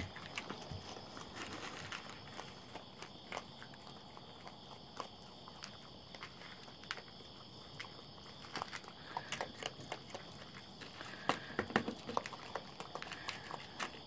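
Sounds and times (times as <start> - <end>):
night insects chorus: 0.0 - 14.0
raccoon eating crunches and clicks: 0.0 - 14.0.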